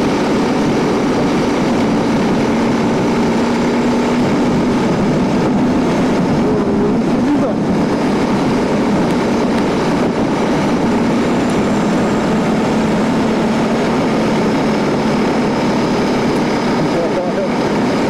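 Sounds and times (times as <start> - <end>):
quad bike engine running: 0.0 - 18.0
rushing noise: 0.0 - 18.0.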